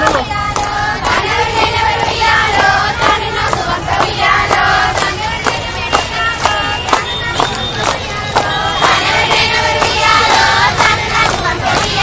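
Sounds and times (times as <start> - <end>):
crowd murmur: 0.0 - 12.0
girls singing folk song: 0.0 - 12.0
rhythmic hand claps: 0.0 - 12.0.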